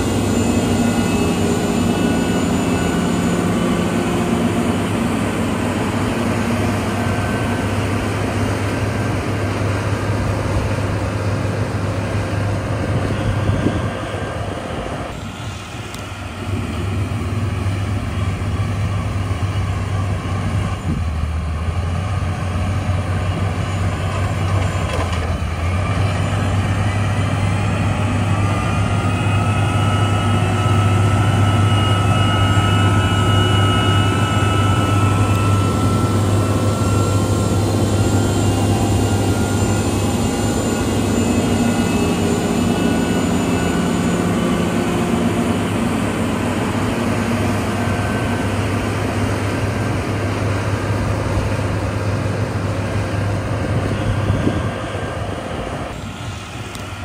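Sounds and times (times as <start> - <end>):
faint rising whine: 0.0 - 19.3, 25.6 - 57.0
heavy diesel engine running: 0.0 - 57.0.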